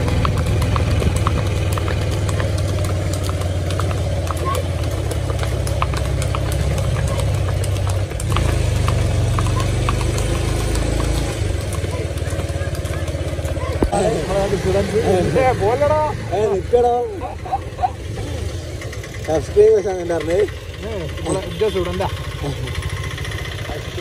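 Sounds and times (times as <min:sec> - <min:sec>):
horse hooves on tarmac: 0:00.0 - 0:24.0.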